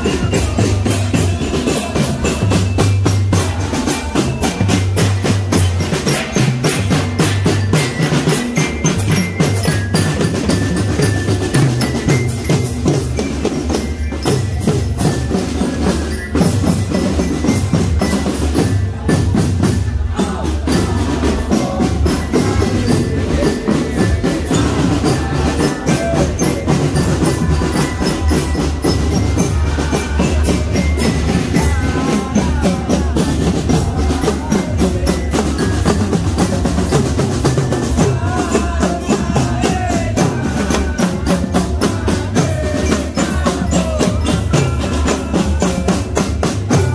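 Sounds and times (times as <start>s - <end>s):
bell-like mallet tones: 0.0s - 46.9s
marching drum band: 0.0s - 46.9s.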